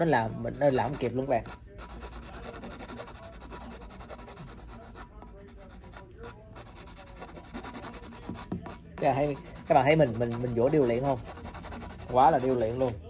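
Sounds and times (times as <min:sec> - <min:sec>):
nail file rasping: 0:00.8 - 0:13.0.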